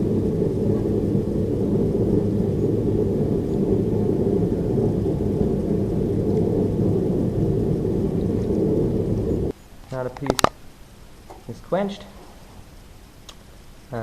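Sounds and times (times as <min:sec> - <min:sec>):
forge burner roaring: 0:00.0 - 0:09.6, 0:10.2 - 0:14.0.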